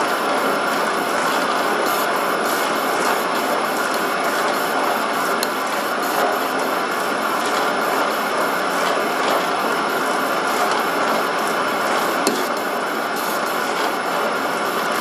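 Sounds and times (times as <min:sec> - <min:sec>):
metal lathe gear clatter: 0:00.1 - 0:15.0.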